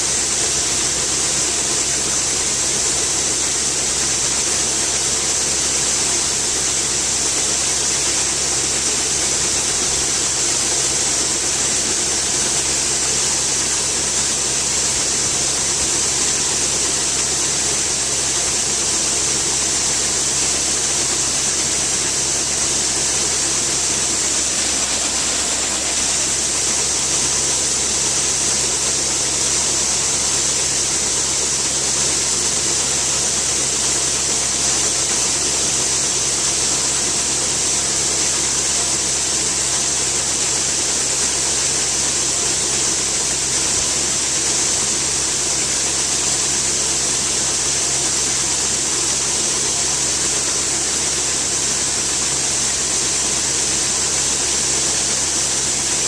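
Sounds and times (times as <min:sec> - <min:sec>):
heavy machinery engine running: 0:00.0 - 0:56.0
high hiss: 0:00.0 - 0:56.0.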